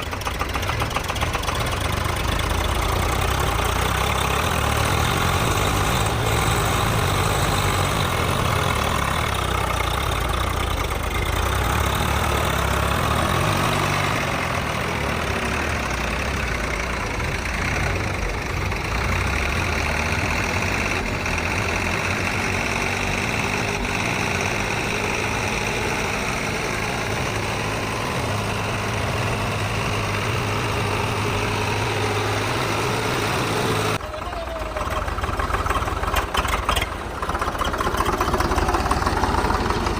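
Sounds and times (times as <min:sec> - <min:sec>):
tractor engines droning: 0:00.0 - 0:39.9.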